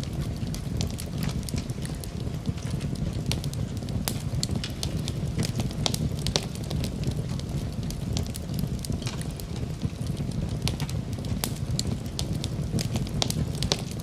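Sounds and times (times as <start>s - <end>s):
fireplace fire crackling and popping: 0.0s - 14.0s.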